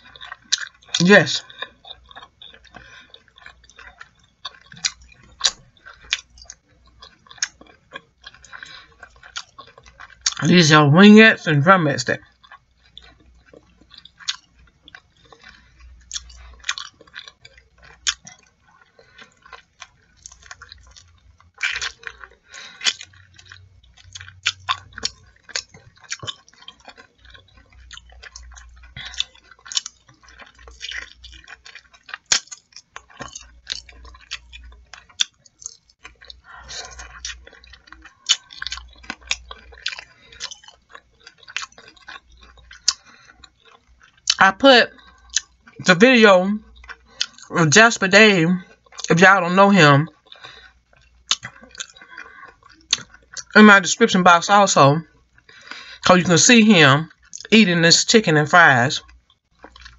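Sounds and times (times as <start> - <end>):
mouth clicks and smacks: 0.0 - 10.8, 11.8 - 59.9
person chewing chicken wings: 0.0 - 53.8, 54.4 - 57.6, 58.7 - 59.9.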